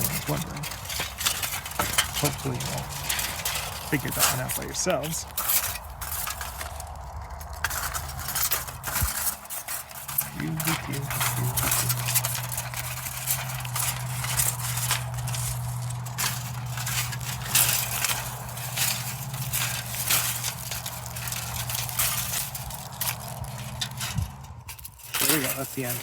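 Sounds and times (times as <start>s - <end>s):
tool crunching through metal can: 0.0s - 26.0s.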